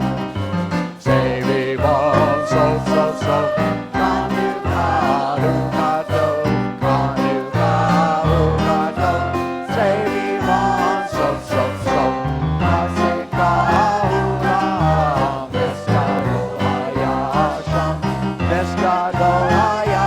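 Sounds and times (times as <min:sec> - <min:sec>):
worship music with singing: 0:00.0 - 0:20.0.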